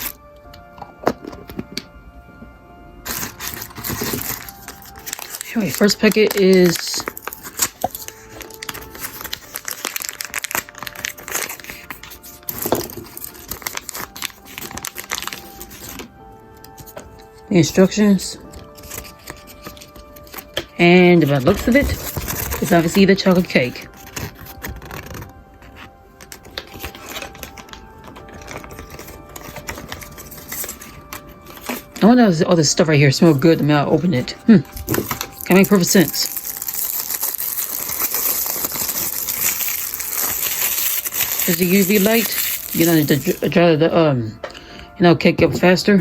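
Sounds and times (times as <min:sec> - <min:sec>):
packaging crinkling and rustling: 0:00.0 - 0:02.0, 0:03.0 - 0:43.6
background music: 0:00.0 - 0:46.0.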